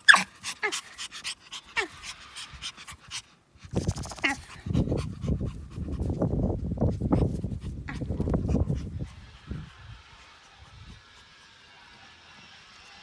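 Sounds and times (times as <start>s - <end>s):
puppy panting: 0.0s - 13.0s.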